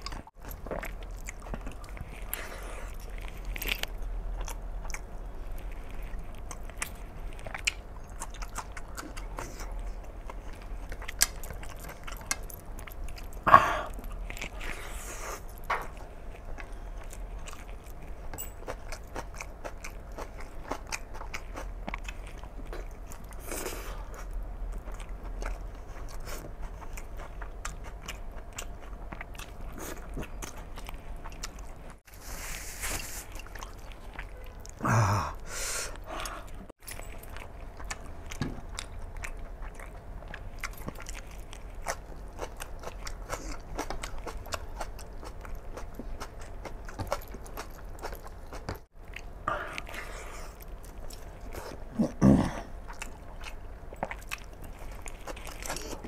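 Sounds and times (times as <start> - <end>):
close chewing and lip-smacking: 0.0 - 32.2, 32.9 - 56.0.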